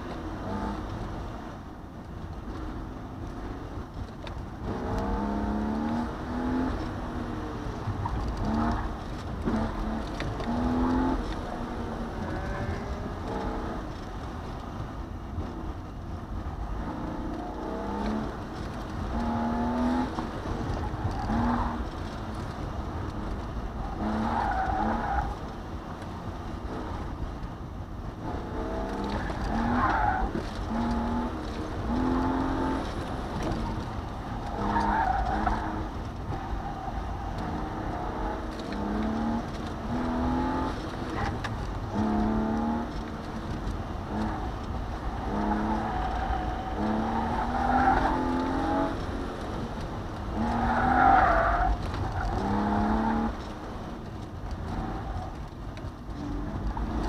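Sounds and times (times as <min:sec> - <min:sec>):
car engine revving: 0:00.0 - 0:01.6, 0:02.2 - 0:15.7, 0:16.3 - 0:27.4, 0:28.0 - 0:57.0.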